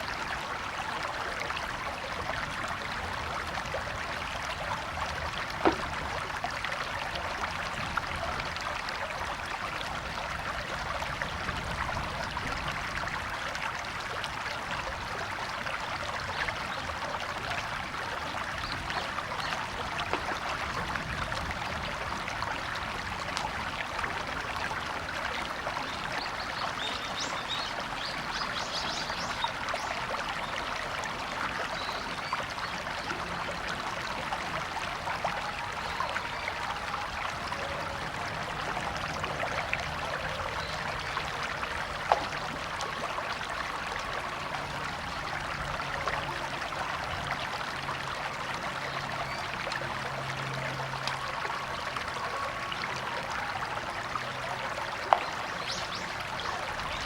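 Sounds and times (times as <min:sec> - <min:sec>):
river water flowing over stones: 0:00.0 - 0:57.0.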